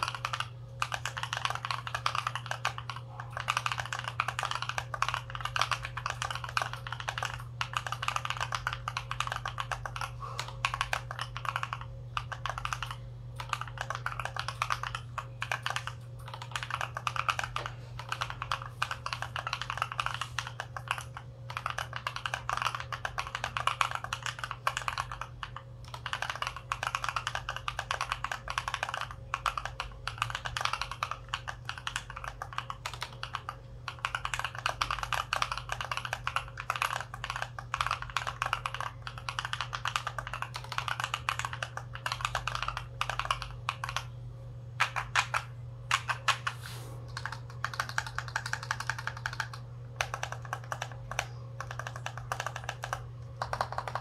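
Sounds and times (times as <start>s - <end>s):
mechanical keyboard typing clacks: 0.0s - 44.2s, 44.8s - 54.0s
steady low hum: 0.0s - 54.0s.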